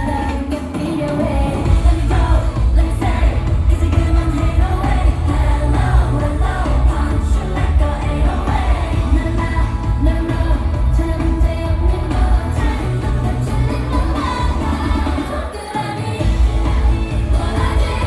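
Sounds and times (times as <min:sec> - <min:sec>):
female group singing: 0:00.0 - 0:18.0
heavy bass beat: 0:01.6 - 0:15.3, 0:16.2 - 0:18.0.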